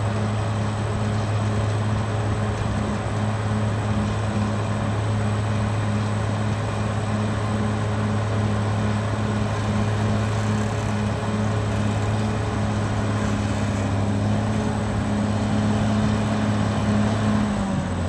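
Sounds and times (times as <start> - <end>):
bulldozer diesel hum: 0.0 - 18.0.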